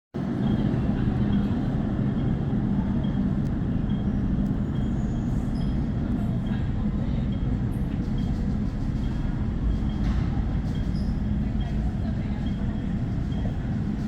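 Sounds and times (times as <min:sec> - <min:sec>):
train rumbling on board: 0:00.2 - 0:14.0.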